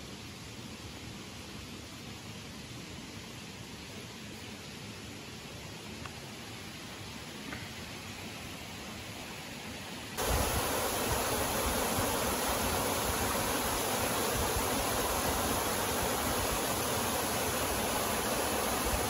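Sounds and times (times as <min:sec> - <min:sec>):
waterfall and stream rushing: 0:00.0 - 0:19.0.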